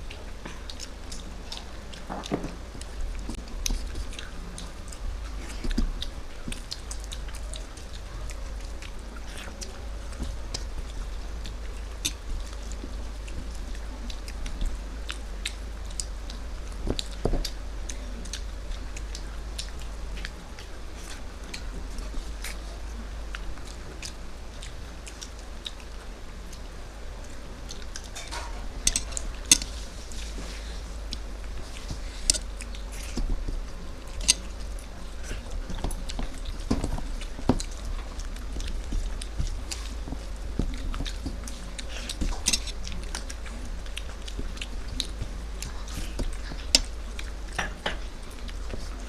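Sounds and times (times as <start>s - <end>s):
steady low hum: 0.0s - 49.0s
wet chewing and mouth smacks: 0.0s - 49.0s.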